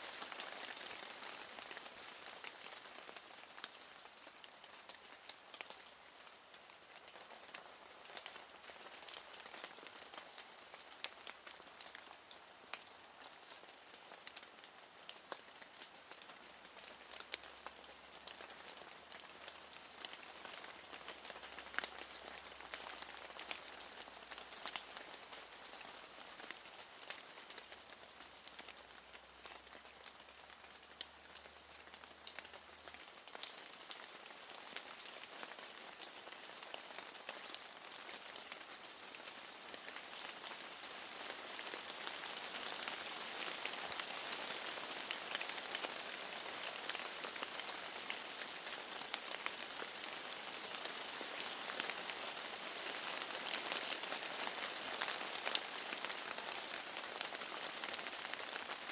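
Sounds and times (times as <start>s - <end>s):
steady rain: 0.0s - 58.9s
raindrops ticking: 0.1s - 58.9s.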